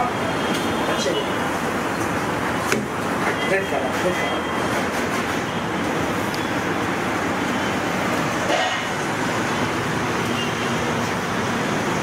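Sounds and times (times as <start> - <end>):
city traffic hum: 0.0 - 12.0.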